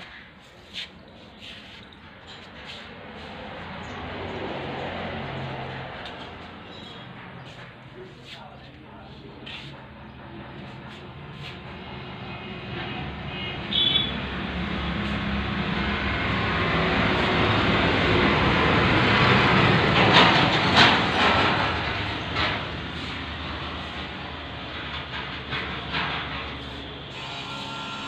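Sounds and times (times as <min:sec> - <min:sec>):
passing vehicle engine rumbling: 0:00.0 - 0:27.2.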